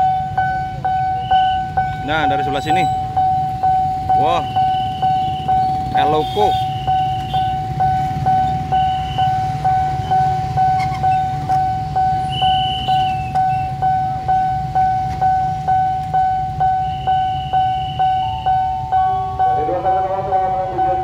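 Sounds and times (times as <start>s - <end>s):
level crossing bell ringing: 0.0s - 21.0s
motorcycles idling: 0.0s - 21.0s.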